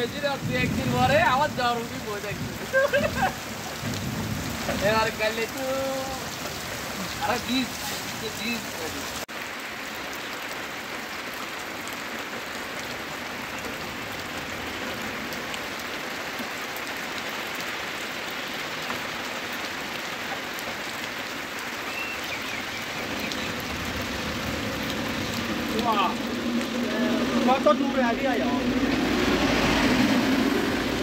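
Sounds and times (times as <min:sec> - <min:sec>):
heavy rain falling: 0:00.0 - 0:31.0.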